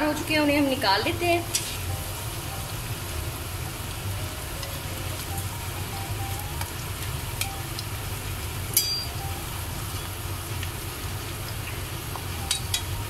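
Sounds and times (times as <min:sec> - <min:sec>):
deep-frying sizzle in oil: 0:00.0 - 0:13.0
low steady hum: 0:00.0 - 0:13.0.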